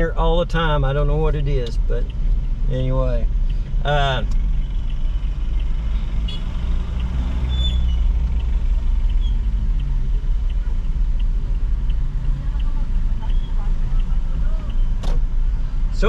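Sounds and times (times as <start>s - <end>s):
engine and road rumble: 0.0s - 16.0s
faint regular ticking: 0.0s - 16.0s.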